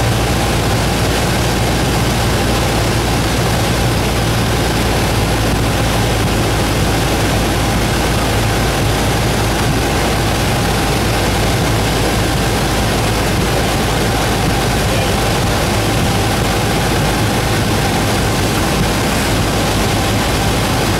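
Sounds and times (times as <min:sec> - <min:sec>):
airplane engine droning: 0:00.0 - 0:20.9
rush of air: 0:00.0 - 0:20.9.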